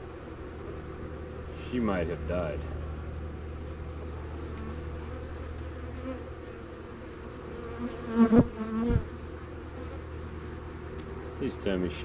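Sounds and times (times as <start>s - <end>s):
bee buzzing close by: 0.0s - 12.0s
bees buzzing around hive: 0.0s - 12.0s.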